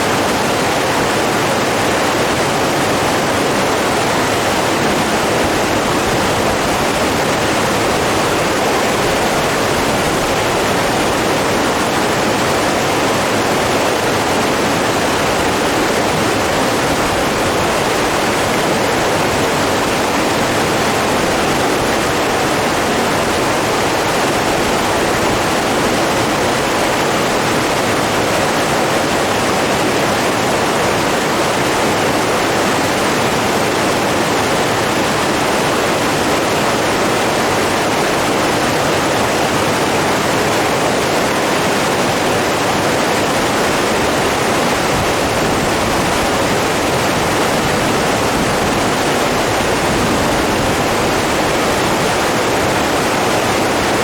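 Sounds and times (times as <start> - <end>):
fast-flowing water rushing: 0.0 - 54.0.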